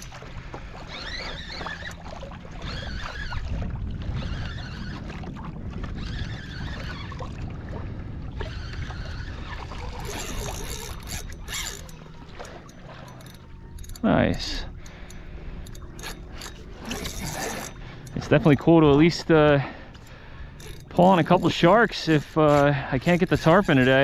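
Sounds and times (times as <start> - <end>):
water lapping against kayak hull: 0.0 - 24.0
wind buffeting microphone: 0.0 - 24.0.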